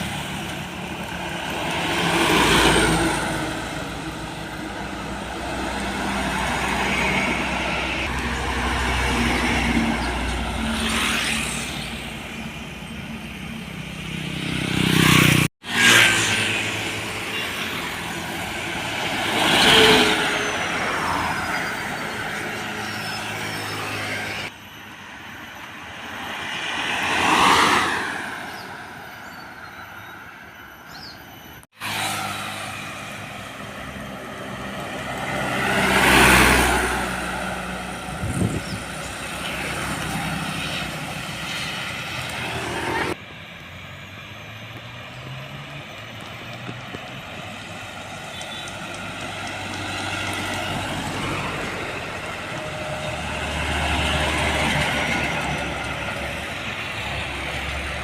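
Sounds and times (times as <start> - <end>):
diesel trucks passing by: 0.0 - 58.0
traffic engine and tyre noise: 0.0 - 58.0.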